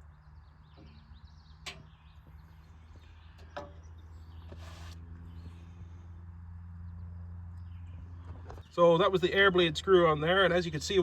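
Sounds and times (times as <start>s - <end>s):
birdsong: 0.0s - 11.0s
low engine hum: 0.0s - 11.0s.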